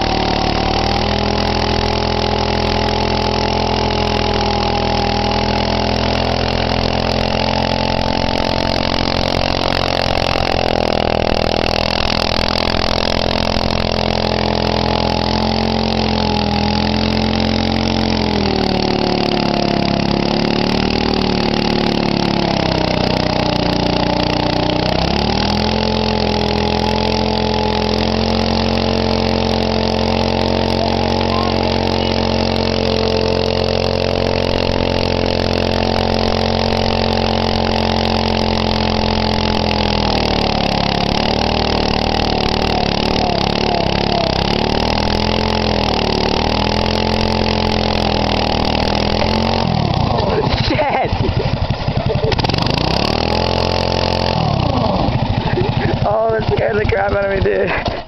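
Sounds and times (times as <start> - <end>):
minibike engine running: 0.0 - 58.0
tire spinning on asphalt: 0.0 - 58.0.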